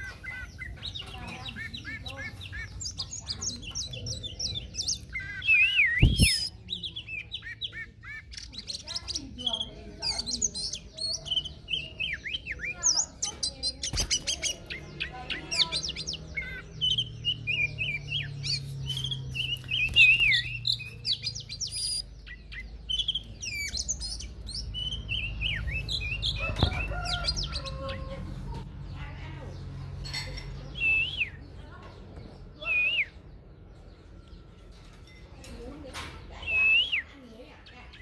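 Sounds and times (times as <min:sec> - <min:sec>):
bird singing: 0:00.0 - 0:38.0.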